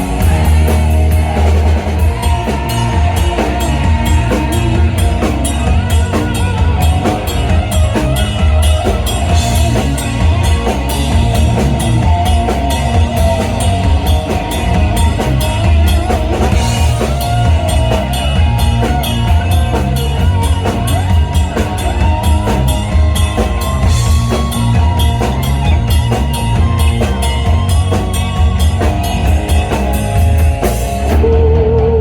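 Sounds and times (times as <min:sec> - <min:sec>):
drum kit beating: 0:00.0 - 0:32.0
electric guitar bending notes: 0:00.0 - 0:32.0
live rock band playing: 0:00.0 - 0:32.0.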